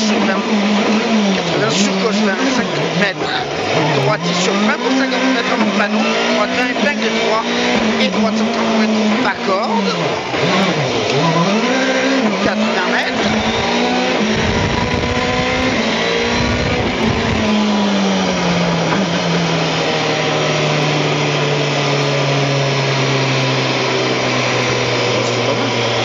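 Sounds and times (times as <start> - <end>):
rally car engine drone: 0.0 - 26.0
road and tyre noise: 0.0 - 26.0.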